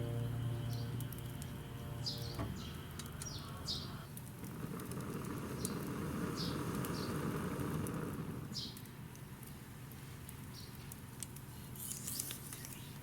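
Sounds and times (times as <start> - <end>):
small birds chirping: 0.0 - 4.2, 4.8 - 9.6, 10.4 - 13.0.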